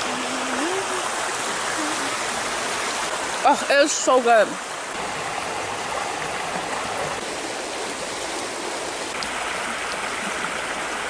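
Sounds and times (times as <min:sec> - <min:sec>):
creek water flowing over stones: 0:00.0 - 0:11.0.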